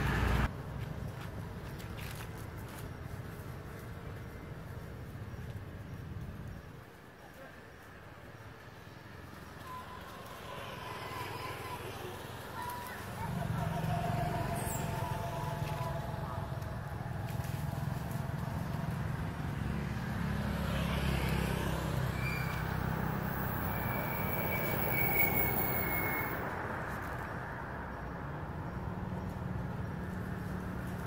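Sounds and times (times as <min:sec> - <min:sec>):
motor vehicle rumbling: 0:00.0 - 0:31.0.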